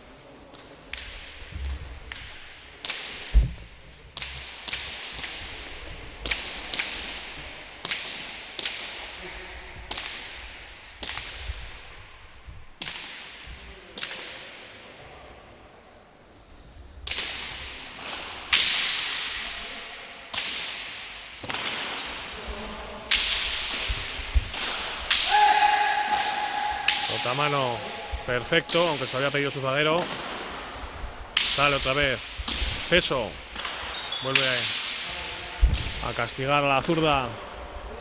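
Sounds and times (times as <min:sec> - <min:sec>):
ball cracking off walls with echo: 0:00.9 - 0:14.9, 0:17.0 - 0:36.2.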